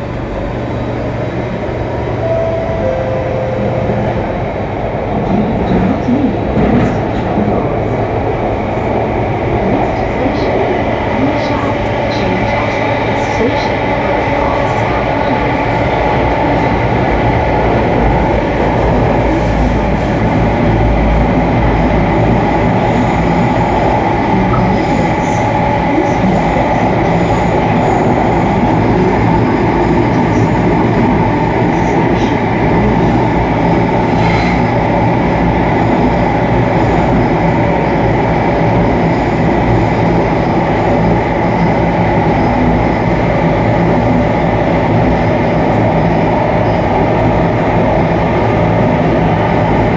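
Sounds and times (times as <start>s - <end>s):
train running rumble: 0.0s - 49.9s.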